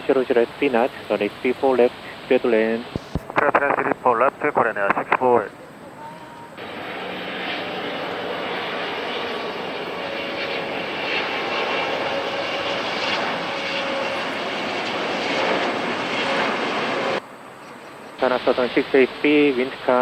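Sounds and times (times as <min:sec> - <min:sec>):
jet engine rushing: 0:00.0 - 0:17.2, 0:18.2 - 0:20.0.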